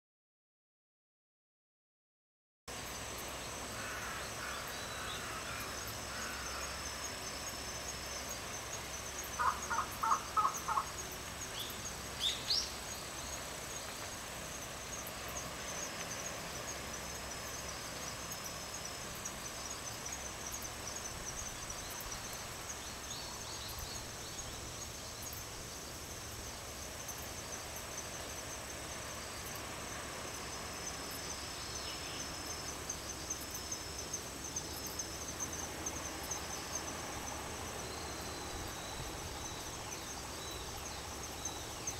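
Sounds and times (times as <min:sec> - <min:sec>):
insects trilling: 0:02.7 - 0:41.9.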